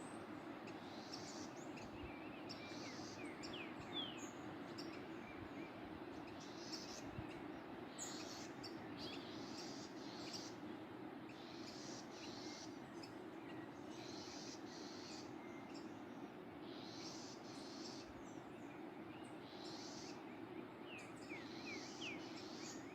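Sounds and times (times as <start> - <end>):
birds singing: 0.0 - 22.9.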